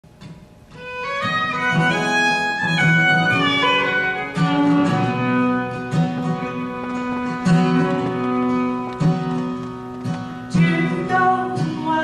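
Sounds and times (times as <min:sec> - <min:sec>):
acoustic guitar accompaniment: 0:00.0 - 0:12.0
fiddle melody: 0:00.7 - 0:11.8.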